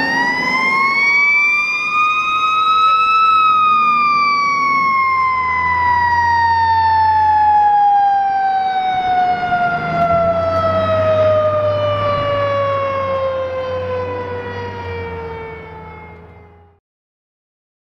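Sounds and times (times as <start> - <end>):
mechanical siren winding down: 0.0 - 16.8
truck engine rumbling: 0.0 - 16.8.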